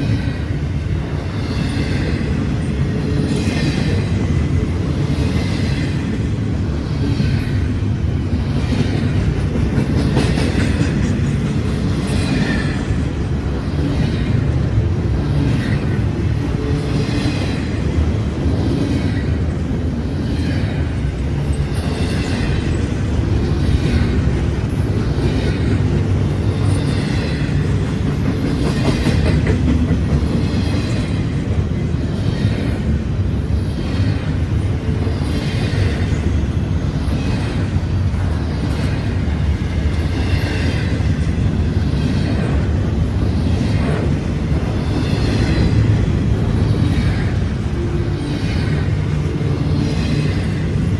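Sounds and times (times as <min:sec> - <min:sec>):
steel wheels rumbling on rail: 0:00.0 - 0:50.9
wheels clickety-clack over joints: 0:01.2 - 0:50.9.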